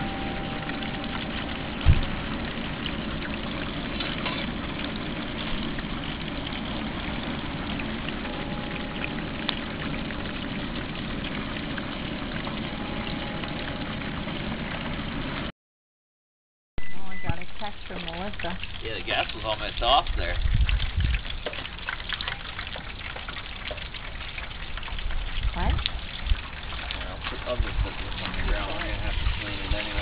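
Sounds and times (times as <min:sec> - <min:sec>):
oil bubbling: 0:00.0 - 0:15.5, 0:17.0 - 0:30.0.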